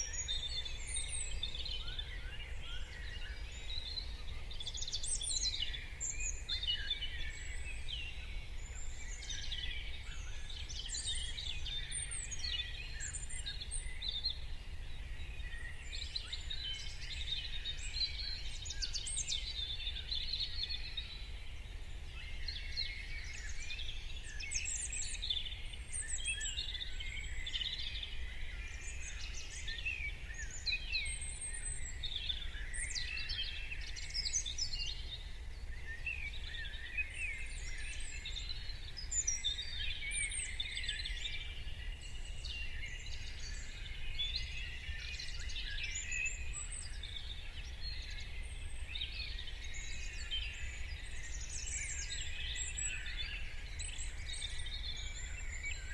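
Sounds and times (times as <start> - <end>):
songbirds singing and calling: 0.0 - 55.9.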